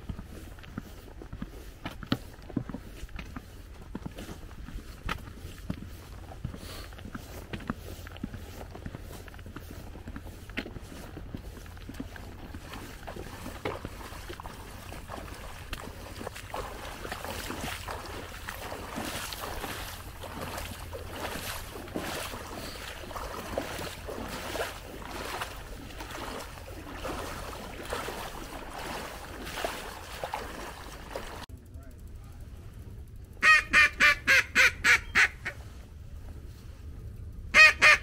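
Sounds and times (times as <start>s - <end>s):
footsteps splashing through water: 0.0s - 31.5s.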